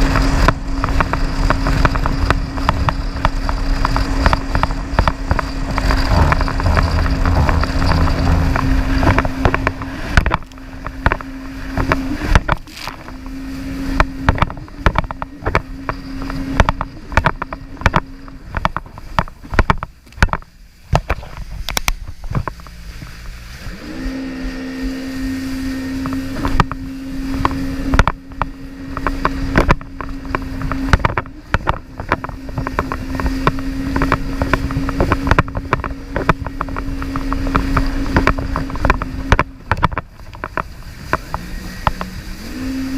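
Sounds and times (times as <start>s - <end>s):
jet ski engine running: 0.0s - 42.9s.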